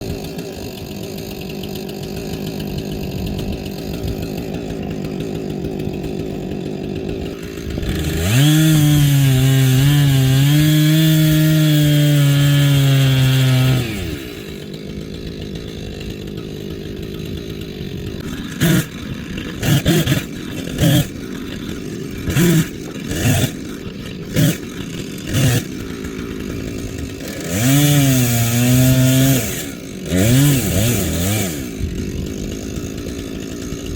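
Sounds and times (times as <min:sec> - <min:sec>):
chainsaw revving and cutting log: 0:00.0 - 0:33.9.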